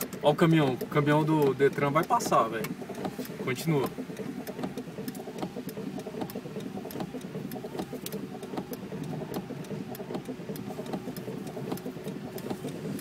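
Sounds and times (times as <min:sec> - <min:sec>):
car engine idling: 0:00.0 - 0:13.0
rain striking car roof: 0:00.0 - 0:13.0.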